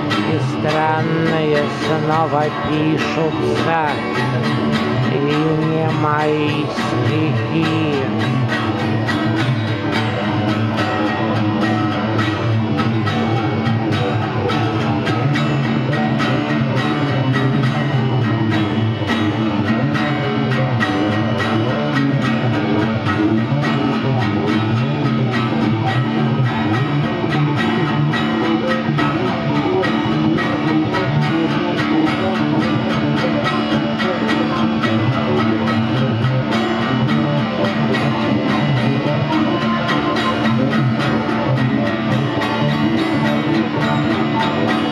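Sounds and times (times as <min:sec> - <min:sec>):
acoustic guitar strumming: 0:00.0 - 0:44.9
electric guitar playing: 0:00.0 - 0:44.9.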